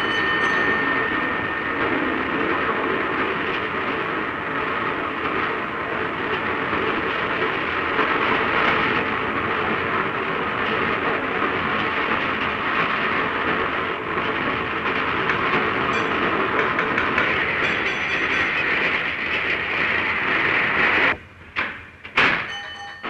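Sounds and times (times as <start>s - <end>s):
train wheel and rail noise: 0.0s - 23.0s.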